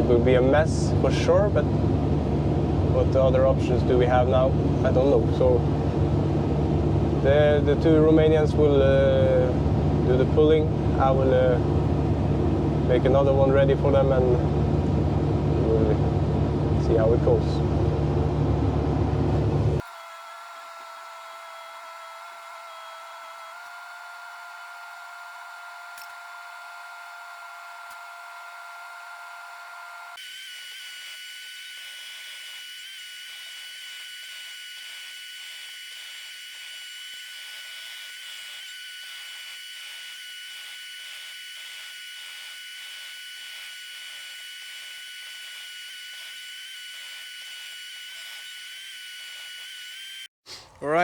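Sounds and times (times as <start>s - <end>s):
high-pitched mechanical whine: 0.0s - 50.3s.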